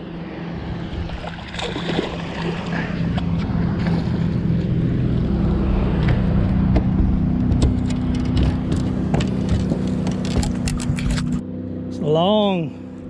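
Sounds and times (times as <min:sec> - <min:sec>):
wind rumble on microphone: 0:00.0 - 0:11.4.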